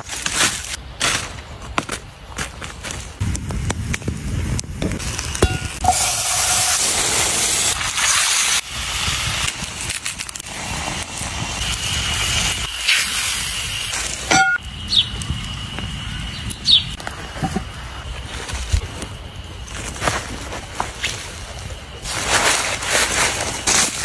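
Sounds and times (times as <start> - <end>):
campfire crackling and popping: 1.4 - 24.0
loud steady hiss: 3.2 - 24.0.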